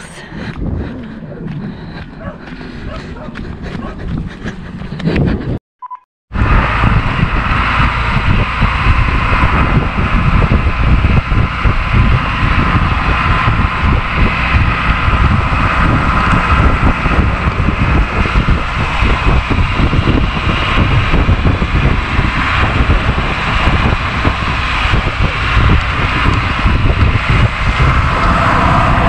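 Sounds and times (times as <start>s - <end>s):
road and wind noise: 0.0s - 5.6s, 6.3s - 29.0s
vehicle engine rumble: 0.0s - 5.6s, 6.3s - 29.0s.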